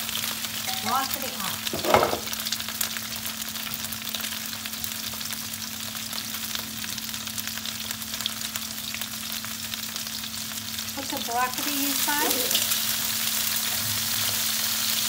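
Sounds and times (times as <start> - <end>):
shrimp sizzling in oil: 0.0 - 15.0.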